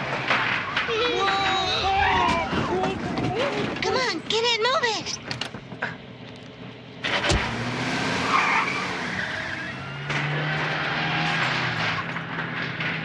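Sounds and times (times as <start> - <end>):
tyres skidding: 0.0 - 13.0
car engine running: 2.2 - 13.0.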